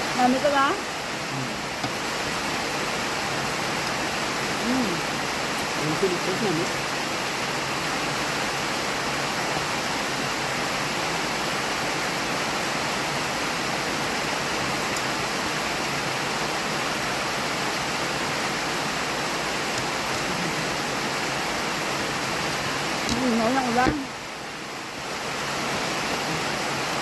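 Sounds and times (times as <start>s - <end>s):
rain falling steadily: 0.0s - 27.0s.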